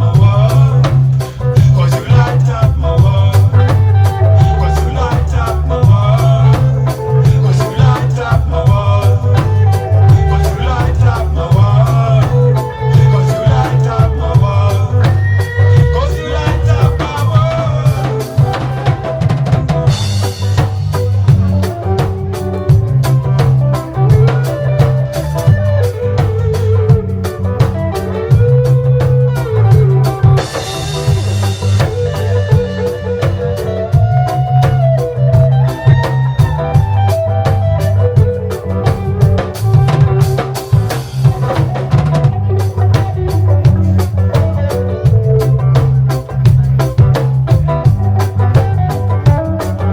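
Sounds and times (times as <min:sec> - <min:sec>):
guitar: 0:00.0 - 0:49.9
lead melody line: 0:00.0 - 0:49.9
reggae music with heavy bass: 0:00.0 - 0:49.9.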